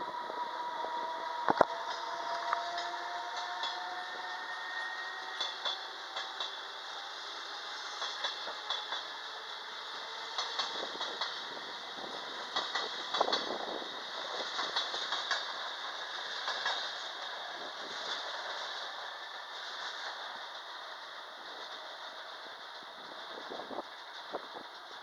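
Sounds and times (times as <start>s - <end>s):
train wheels clacking over rail joints: 1.4s - 25.0s.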